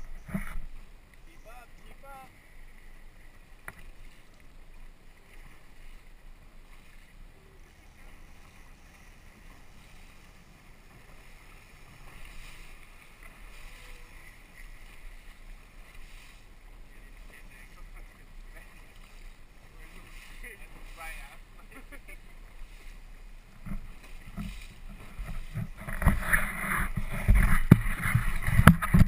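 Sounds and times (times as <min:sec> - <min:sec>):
water rushing along hull: 0:00.0 - 0:29.0
outboard motor running: 0:02.8 - 0:29.0.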